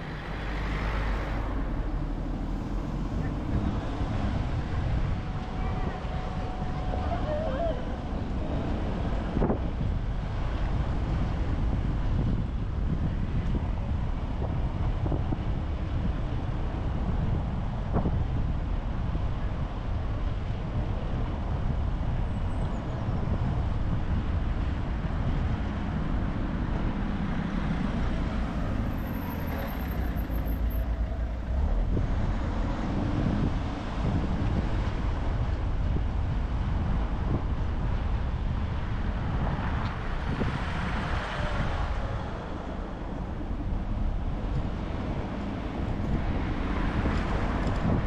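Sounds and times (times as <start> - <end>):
car road and engine rumble: 0.0 - 48.0
wind on microphone: 0.0 - 48.0.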